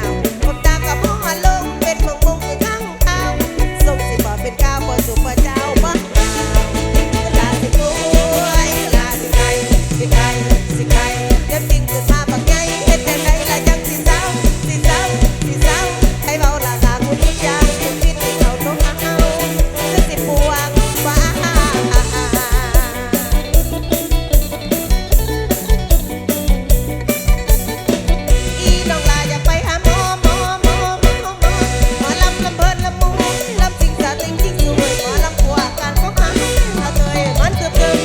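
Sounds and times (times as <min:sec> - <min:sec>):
driving drum beat: 0:00.0 - 0:38.0
heavy bass: 0:00.0 - 0:38.0
live band playing: 0:00.0 - 0:38.0.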